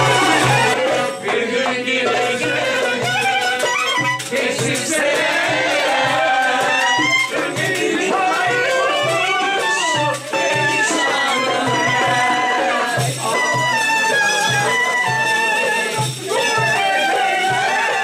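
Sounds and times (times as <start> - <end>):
folk music with steady beat: 0.0 - 18.0.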